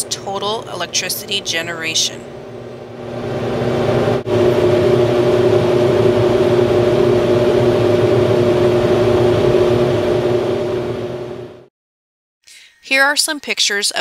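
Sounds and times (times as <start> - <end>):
turbine generator hum: 0.0 - 11.7.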